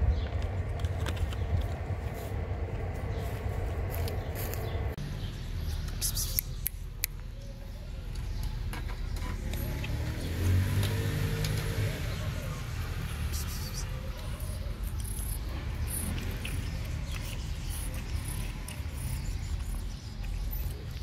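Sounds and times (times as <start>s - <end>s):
low outdoor rumbling: 0.0s - 6.0s, 6.7s - 21.0s.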